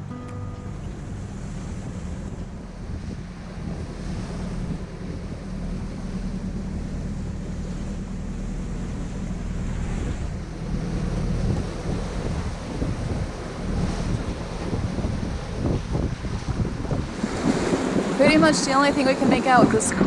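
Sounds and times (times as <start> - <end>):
waves rushing against hull: 0.0 - 20.0
wind buffeting microphone: 0.0 - 20.0.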